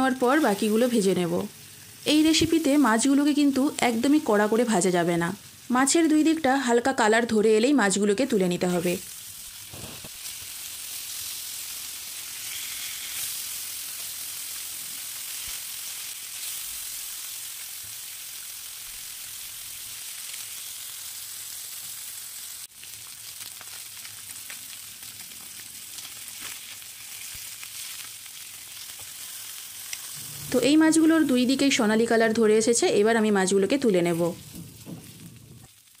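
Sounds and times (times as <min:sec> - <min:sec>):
fish sizzling in frying pan: 0:00.0 - 0:06.4, 0:08.5 - 0:36.0.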